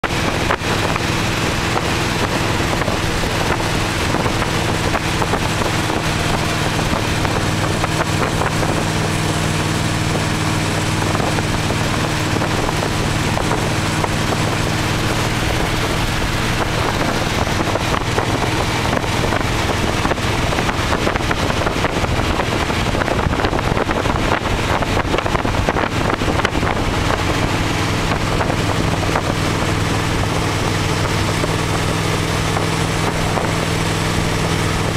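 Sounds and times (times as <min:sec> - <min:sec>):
car engine humming: 0:00.0 - 0:34.9
wind rushing: 0:00.0 - 0:34.9.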